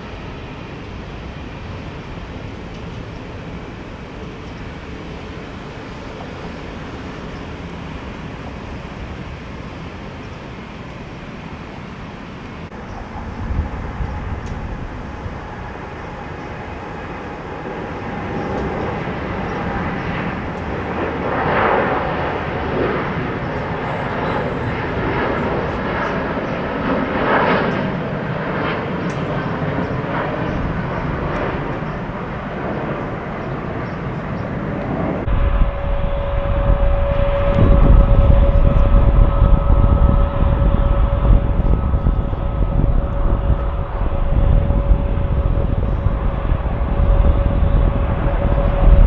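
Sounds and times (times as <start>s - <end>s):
jet engine rumble: 0.0s - 49.0s
jet engine whine: 0.0s - 49.0s.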